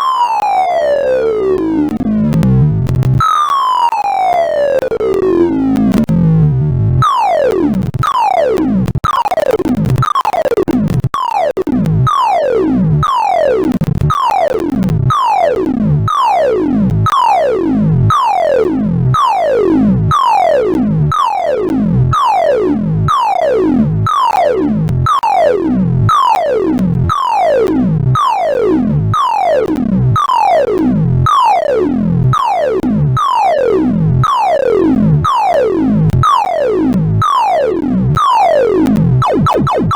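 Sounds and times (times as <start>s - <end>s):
rapid synthesized beeps: 7.0s - 30.7s, 31.3s - 39.9s.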